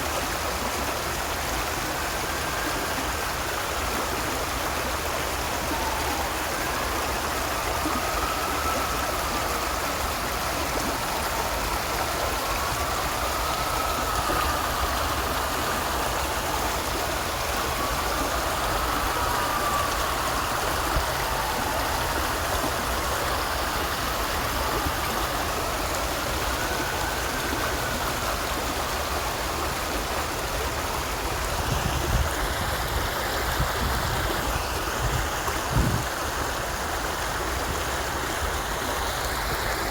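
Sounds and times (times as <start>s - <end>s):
water stream flowing: 0.0s - 39.9s.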